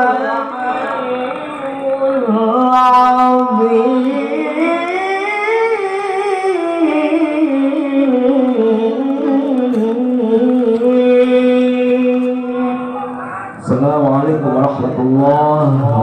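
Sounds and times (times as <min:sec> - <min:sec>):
man reciting in melismatic chant: 0:00.0 - 0:16.0.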